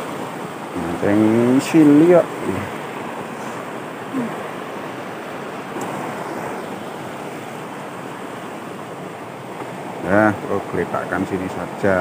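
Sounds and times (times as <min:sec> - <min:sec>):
floodwater rushing over rocks: 0:00.0 - 0:12.0.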